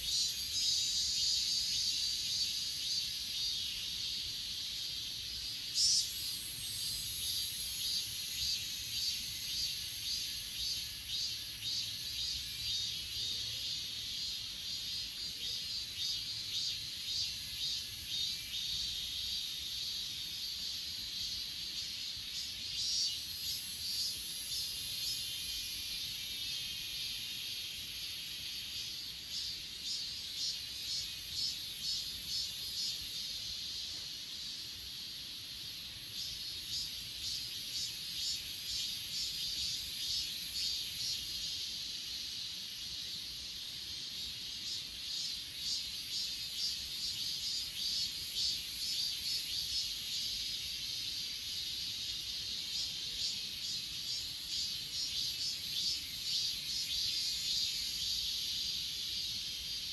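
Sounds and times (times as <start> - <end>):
insects buzzing: 0.0 - 59.9
insects pulsing chirps: 0.0 - 59.9.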